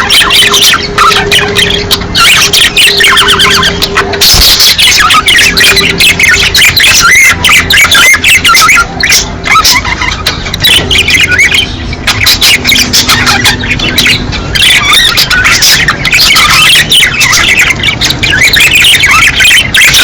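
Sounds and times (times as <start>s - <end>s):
budgerigars chattering: 0.0s - 20.0s.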